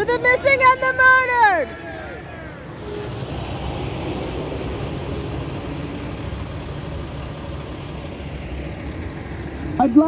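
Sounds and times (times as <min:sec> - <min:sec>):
heavy motor vehicle running: 0:00.0 - 0:10.0.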